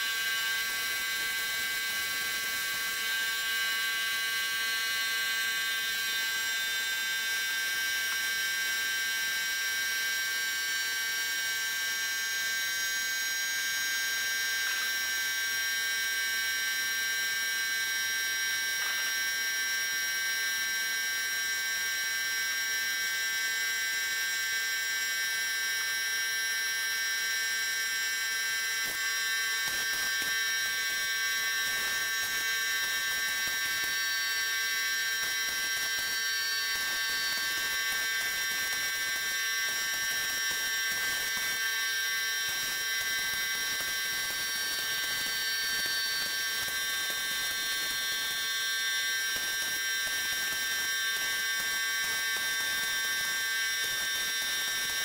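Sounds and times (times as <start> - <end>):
electric motor buzzing whine: 0.0 - 55.0.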